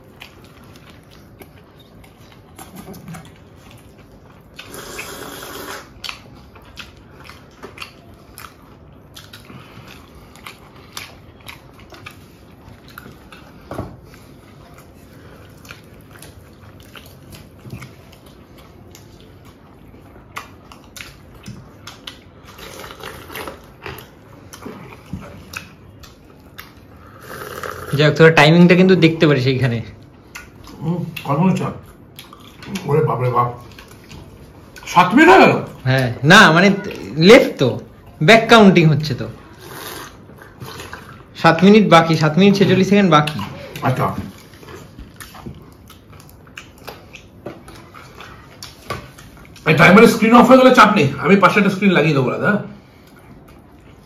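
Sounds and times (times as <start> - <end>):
biting and chewing food: 0.0 - 29.2, 29.9 - 36.2, 36.8 - 51.9.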